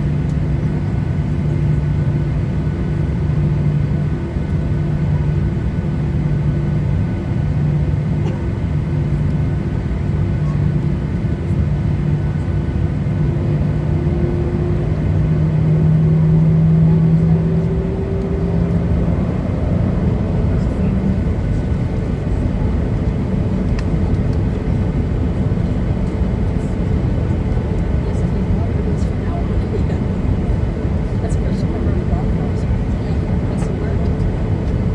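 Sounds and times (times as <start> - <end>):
jet engines idling: 0.0 - 34.9.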